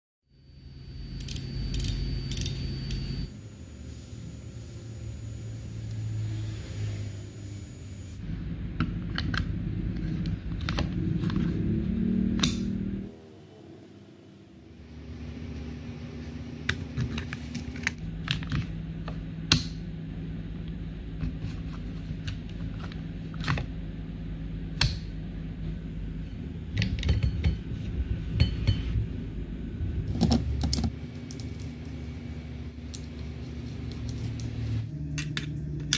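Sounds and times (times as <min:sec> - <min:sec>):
steady low hum: 0:00.3 - 0:35.9.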